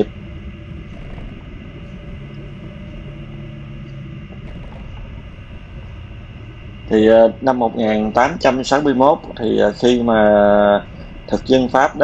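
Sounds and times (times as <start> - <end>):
faint engine hum: 0.0 - 12.0
vehicle and road rumble: 0.0 - 12.0.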